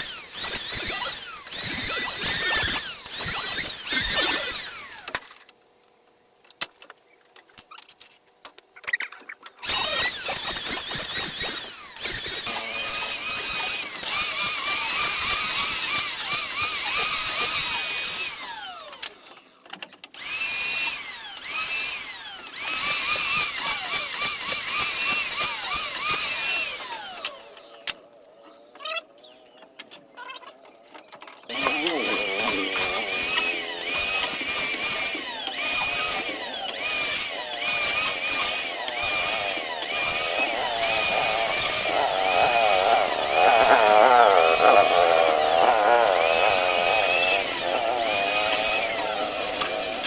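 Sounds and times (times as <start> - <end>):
power tool whining on wood: 0.0 - 5.5, 9.6 - 29.7, 30.8 - 50.0.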